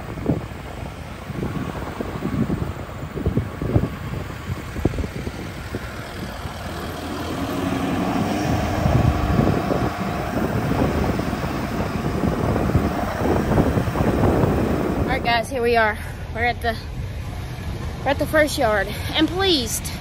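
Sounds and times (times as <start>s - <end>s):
vehicle road and engine rumble: 0.0s - 20.0s.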